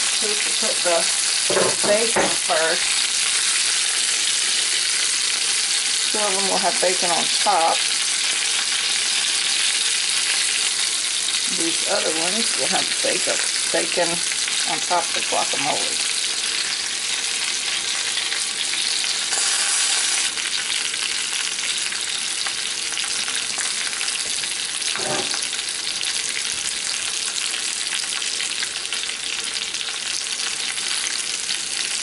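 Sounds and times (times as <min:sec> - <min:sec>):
chicken sizzling in a skillet: 0:00.0 - 0:32.0.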